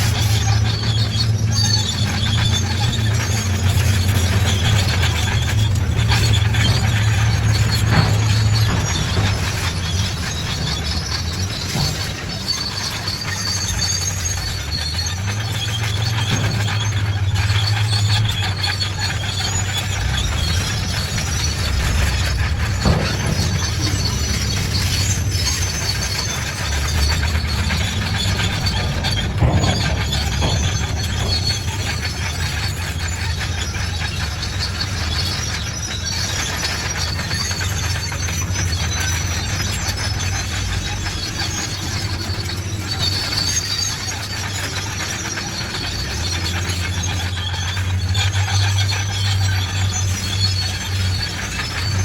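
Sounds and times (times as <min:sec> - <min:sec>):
bulldozer diesel engine running: 0:00.0 - 0:52.0
steel tracks squealing and clanking: 0:00.0 - 0:52.0.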